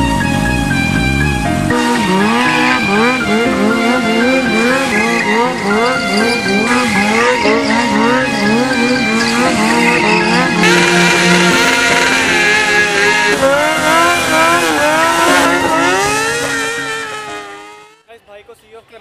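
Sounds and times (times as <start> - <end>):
music with siren-like sliding notes: 0.0 - 18.0.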